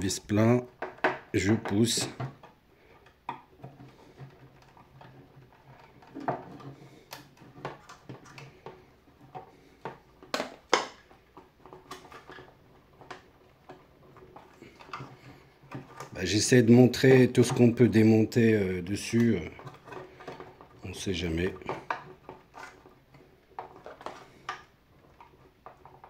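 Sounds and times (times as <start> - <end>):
light plastic clicks and scrapes: 0.7 - 18.0, 19.0 - 26.0.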